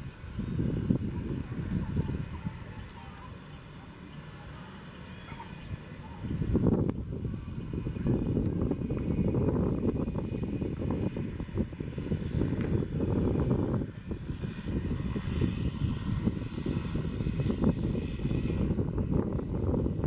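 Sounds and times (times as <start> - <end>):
high whine: 0.0 - 20.0
turboprop engines rumbling: 0.0 - 20.0.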